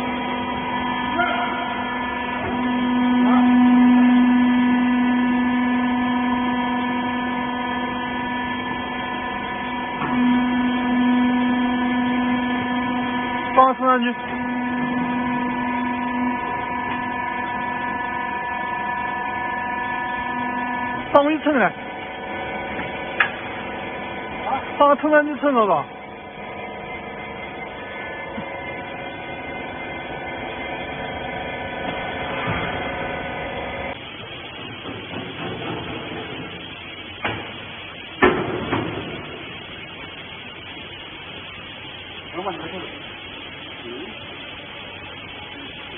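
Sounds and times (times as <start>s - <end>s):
hydraulic pump motor humming: 0.0s - 45.9s.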